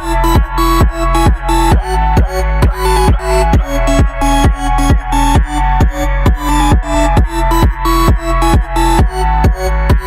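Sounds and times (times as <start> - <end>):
deep sustained bass: 0.0 - 10.0
held synth notes: 0.0 - 10.0
kick drum: 0.0 - 10.0.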